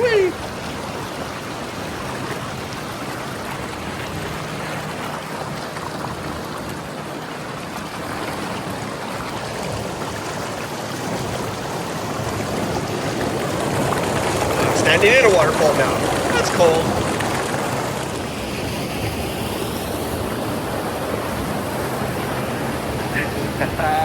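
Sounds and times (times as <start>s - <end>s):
water rushing over small waterfall: 0.0s - 24.0s.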